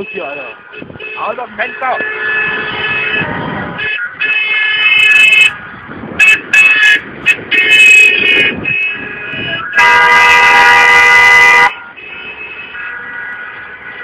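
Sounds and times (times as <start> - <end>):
car horns honking: 0.0 - 5.6, 6.2 - 14.0
distant car horns: 0.0 - 5.6, 6.2 - 14.0.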